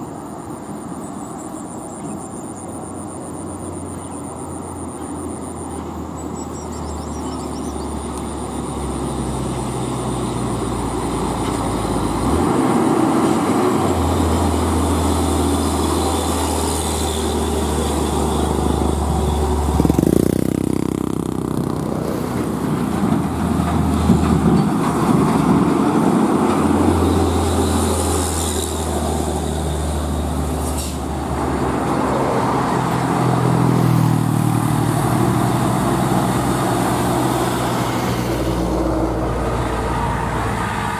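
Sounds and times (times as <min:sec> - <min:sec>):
truck engine under load: 0:07.1 - 0:40.9.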